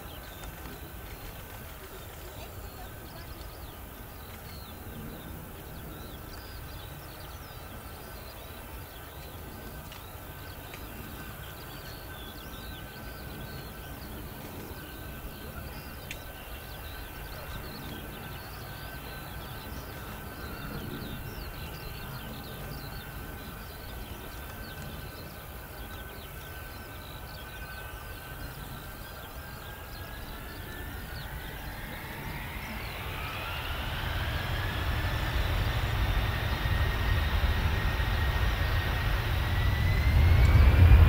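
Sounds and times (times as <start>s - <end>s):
birds chirping: 0.0s - 41.0s
jet engines rumbling and whining: 0.0s - 41.0s.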